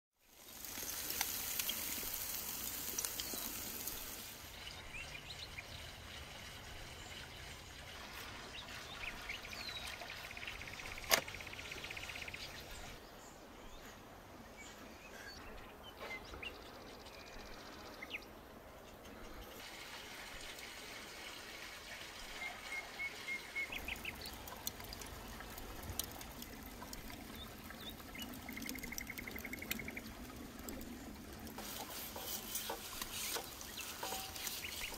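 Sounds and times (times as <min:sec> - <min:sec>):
birds chirping: 0:00.4 - 0:19.6, 0:22.3 - 0:34.9.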